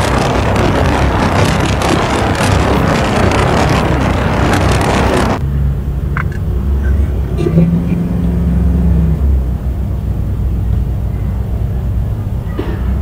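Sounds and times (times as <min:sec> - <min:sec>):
engine and traffic hum: 0:00.0 - 0:13.0
rushing road noise: 0:00.0 - 0:13.0.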